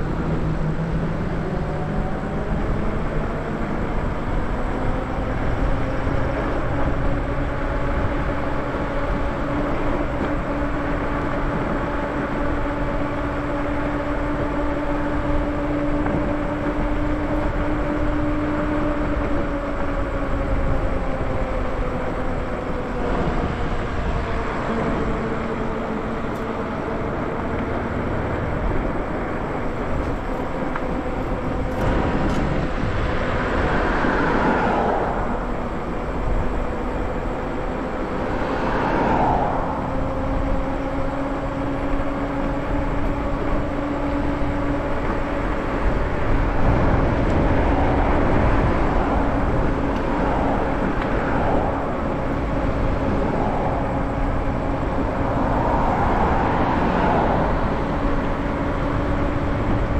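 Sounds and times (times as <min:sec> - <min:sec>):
tyre noise on road: 0:00.0 - 0:59.9
wind noise: 0:00.0 - 0:59.9.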